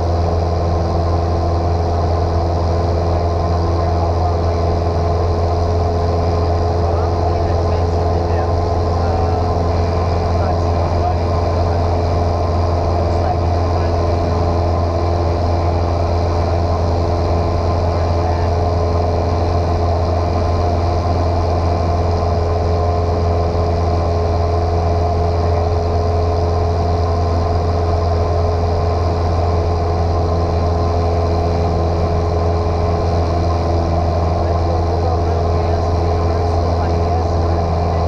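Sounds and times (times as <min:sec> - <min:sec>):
light airplane engine droning: 0:00.0 - 0:38.0.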